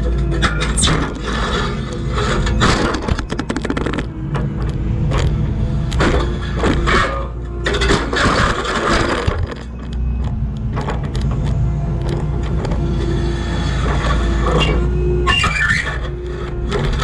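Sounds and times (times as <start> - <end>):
skid steer diesel engine: 0.0 - 17.0.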